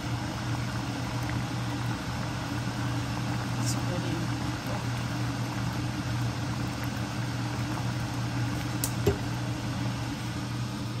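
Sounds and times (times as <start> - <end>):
soup bubbling at a rolling boil: 0.0 - 11.0
steady low hum: 0.0 - 11.0.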